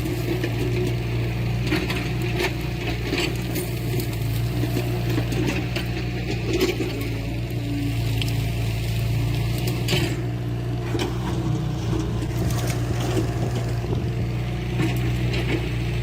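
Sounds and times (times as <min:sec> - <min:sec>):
diesel machinery running: 0:00.0 - 0:16.0.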